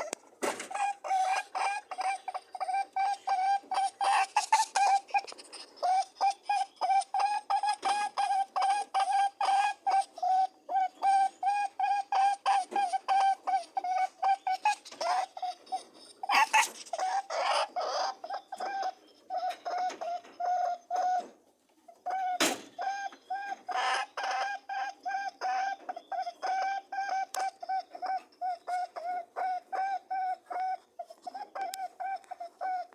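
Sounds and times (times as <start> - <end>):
rabbit honking: 0.0 - 32.9.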